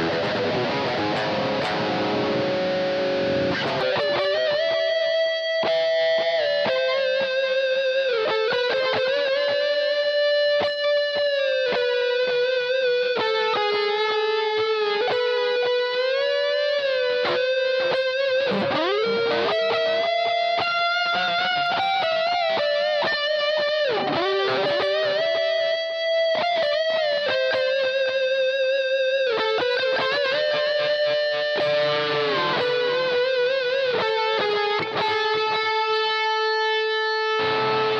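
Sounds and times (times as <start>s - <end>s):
electric guitar lead line: 0.0s - 37.9s.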